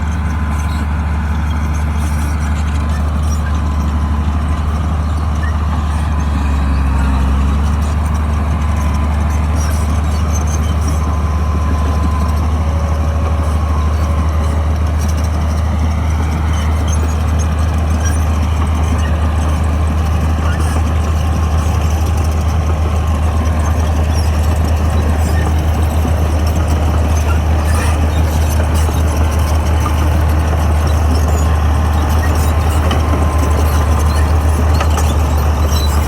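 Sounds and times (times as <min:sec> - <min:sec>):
bulldozer diesel engine droning: 0:00.0 - 0:36.0
faint squeaks and clicks: 0:00.0 - 0:36.0.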